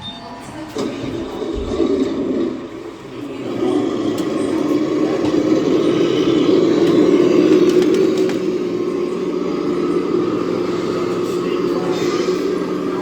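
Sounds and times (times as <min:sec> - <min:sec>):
model vehicle engines droning: 0:00.0 - 0:13.0.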